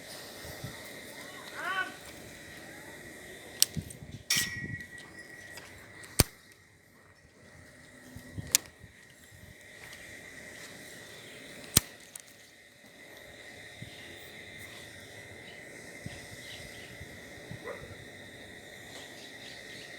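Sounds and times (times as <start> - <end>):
faint insect hum: 0.0 - 19.9.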